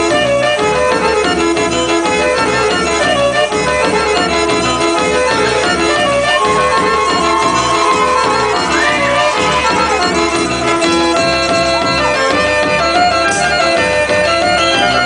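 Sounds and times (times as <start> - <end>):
folk dance music: 0.0 - 15.0.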